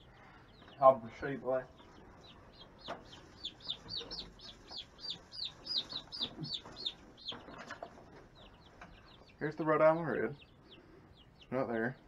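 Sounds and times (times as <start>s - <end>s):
young chickens peeping: 0.0s - 12.0s.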